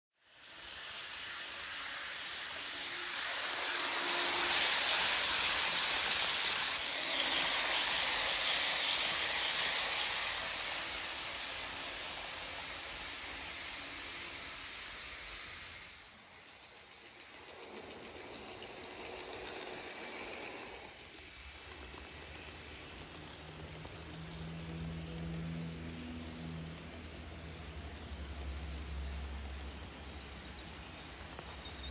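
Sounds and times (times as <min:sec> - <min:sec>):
model train wheels and motors: 0:00.2 - 0:31.9.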